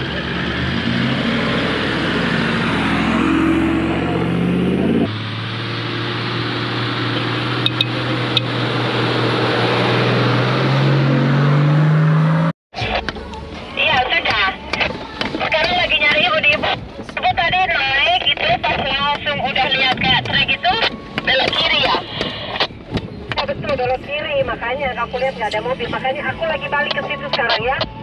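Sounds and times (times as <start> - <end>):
off-road vehicle engines pulling: 0.0 - 28.0.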